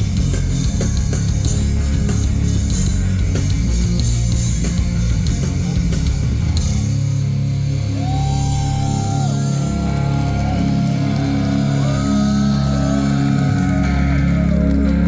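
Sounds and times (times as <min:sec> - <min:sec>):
live rock band playing: 0:00.0 - 0:15.0
steady low bass: 0:00.0 - 0:15.0.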